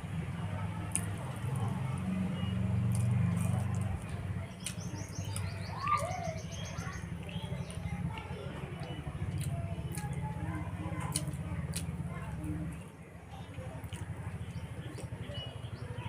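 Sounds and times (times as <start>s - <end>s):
birds chirping: 0.2s - 16.0s.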